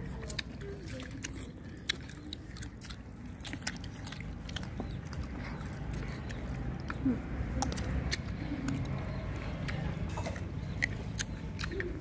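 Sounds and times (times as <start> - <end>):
crunching of crisp fruit: 0.0 - 12.0
low background hum: 0.0 - 12.0.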